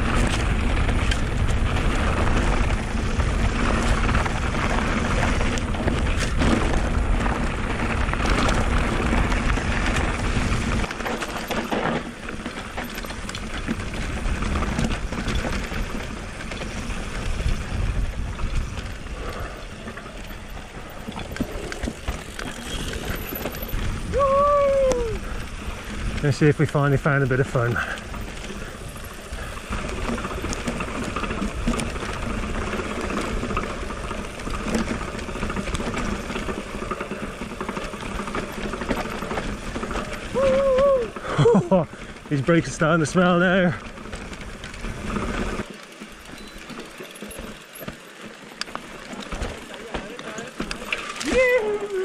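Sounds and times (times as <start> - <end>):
wind rumbling on microphone: 0.0 - 45.7
bike rattling over rough track: 0.0 - 52.0.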